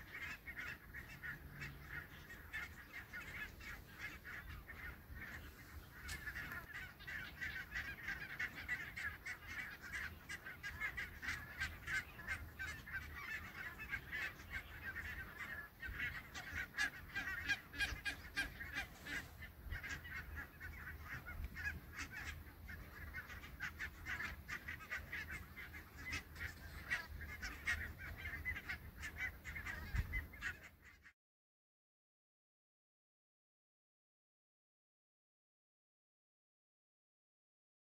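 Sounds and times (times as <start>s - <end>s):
geese honking: 0.0s - 31.1s.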